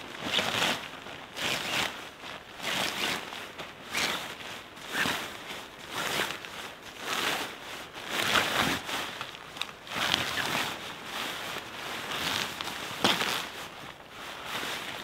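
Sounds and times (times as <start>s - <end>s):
tent fabric rustling: 0.0s - 15.0s.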